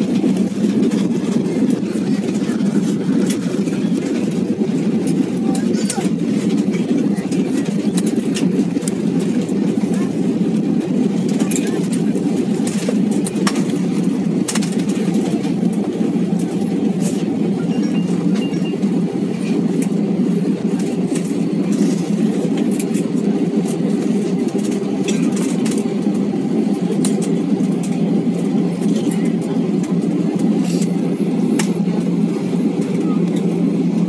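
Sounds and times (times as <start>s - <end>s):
steady rumble of aircraft engines: 0.0s - 34.0s.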